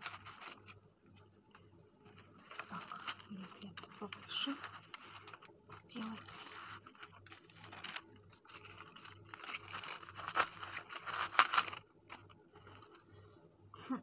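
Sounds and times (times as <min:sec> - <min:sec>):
tissue paper rustling: 0:00.0 - 0:00.8, 0:02.0 - 0:13.1.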